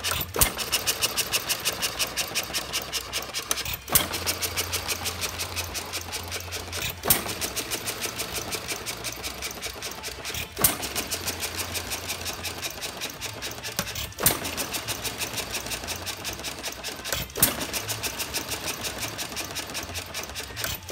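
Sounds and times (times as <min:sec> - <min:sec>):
gas engine mechanical clicking: 0:00.0 - 0:20.9.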